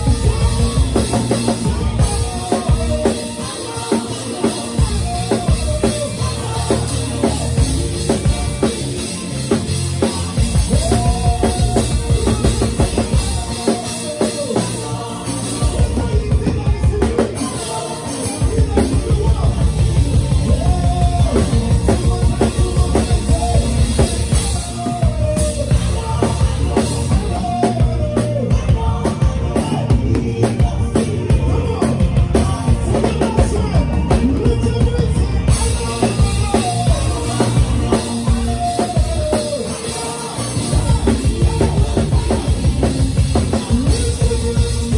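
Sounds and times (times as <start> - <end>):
heavy bass drum: 0.0 - 17.5, 18.4 - 44.9
live band instrumental groove: 0.0 - 44.9.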